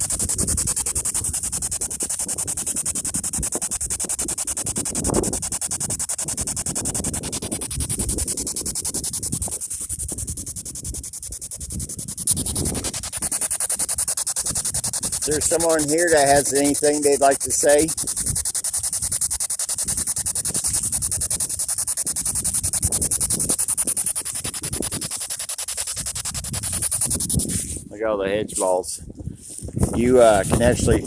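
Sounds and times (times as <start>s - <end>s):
high hiss: 0.0s - 27.9s
radio static stuttering: 0.0s - 29.0s, 29.8s - 31.0s
wind rumbling on microphone: 0.0s - 31.0s.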